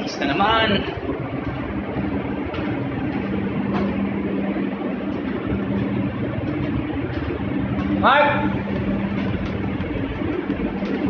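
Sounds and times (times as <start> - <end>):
ship machinery humming: 0.0 - 11.0.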